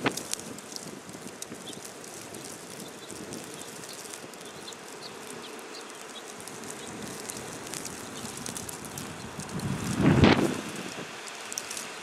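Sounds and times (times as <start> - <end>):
blizzard wind hissing: 0.0 - 12.0
snow grains ticking on camera: 0.0 - 12.0.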